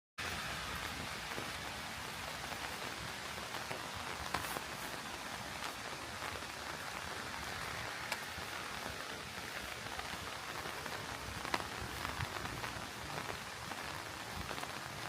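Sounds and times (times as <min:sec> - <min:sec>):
raindrops ticking close by: 0:00.2 - 0:15.0
steady rain falling: 0:00.2 - 0:15.0.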